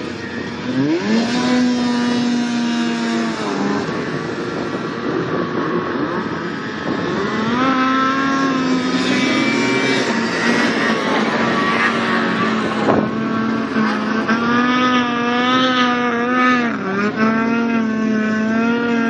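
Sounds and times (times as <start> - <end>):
snowmobile engine revving high: 0.0 - 19.0.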